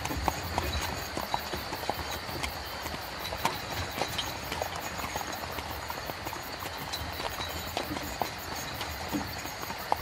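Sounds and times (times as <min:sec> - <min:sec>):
horse hooves clip-clopping: 0:00.0 - 0:10.0.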